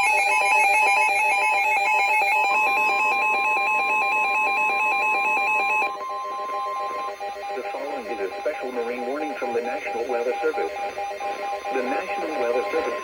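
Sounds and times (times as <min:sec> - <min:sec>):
steady single-pitch alert tone: 0:00.0 - 0:13.0
warbling electronic alert: 0:00.0 - 0:13.0.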